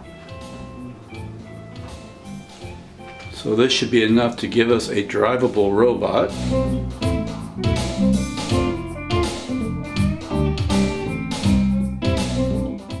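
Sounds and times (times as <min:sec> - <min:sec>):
strummed guitar music: 0:00.0 - 0:13.0.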